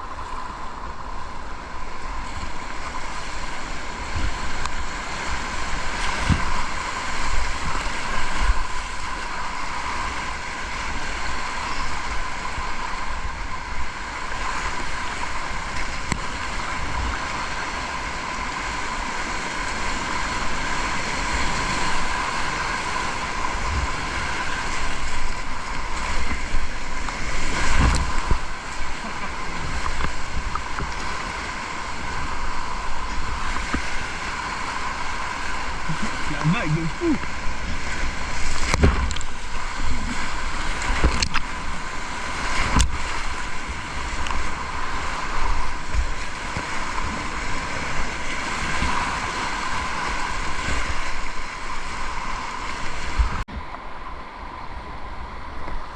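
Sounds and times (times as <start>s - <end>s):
wind on microphone: 0.0s - 54.0s
whitewater rushing: 0.0s - 54.5s.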